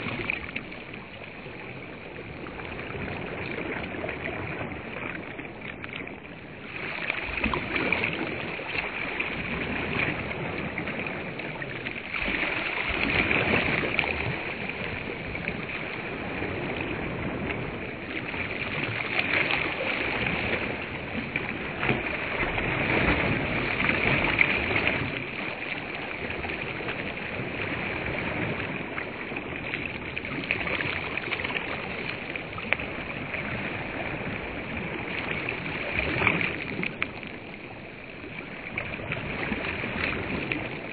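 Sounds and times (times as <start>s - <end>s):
small waves washing onto shore: 0.0s - 40.9s.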